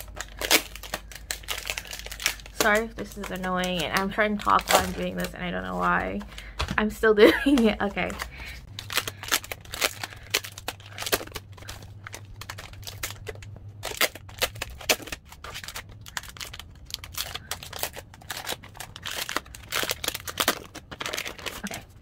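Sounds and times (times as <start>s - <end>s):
foil pouch crinkling and tearing: 0.0s - 6.6s, 7.5s - 22.0s.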